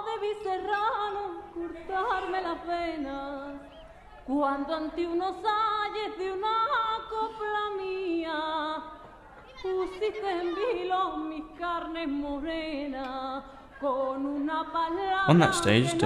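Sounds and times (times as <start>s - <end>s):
woman singing with vibrato: 0.0s - 8.9s, 9.6s - 16.0s.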